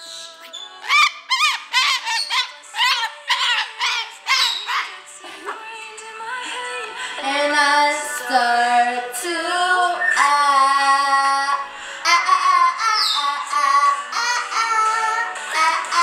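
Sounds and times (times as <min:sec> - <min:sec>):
high sung vocal melody: 0:00.0 - 0:16.0.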